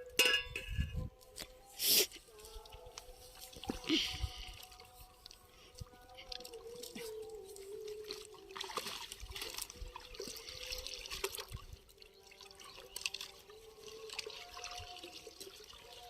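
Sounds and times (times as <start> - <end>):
water splashing and dripping: 2.7 - 16.0.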